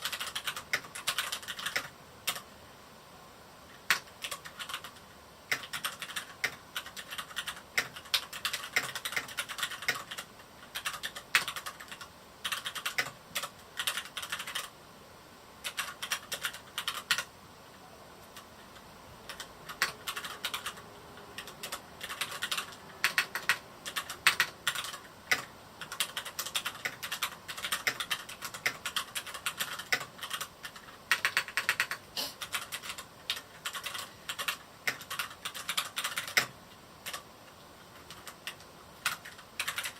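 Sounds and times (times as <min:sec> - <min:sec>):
mechanical keyboard typing: 0:00.0 - 0:02.4, 0:03.8 - 0:14.7, 0:15.6 - 0:17.3, 0:18.2 - 0:37.3, 0:37.9 - 0:39.9.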